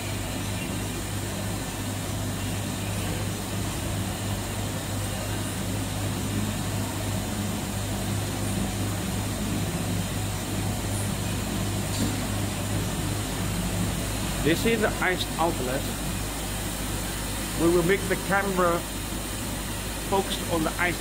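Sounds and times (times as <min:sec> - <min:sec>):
ice machine compressor humming: 0:00.0 - 0:21.0.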